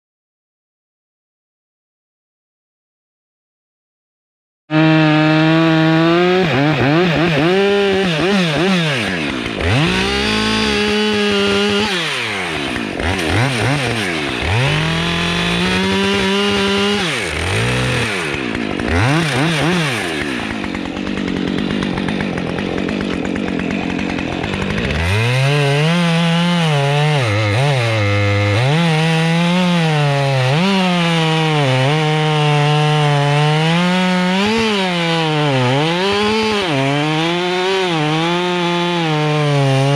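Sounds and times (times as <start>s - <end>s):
chainsaw cutting wood: 4.7s - 39.9s.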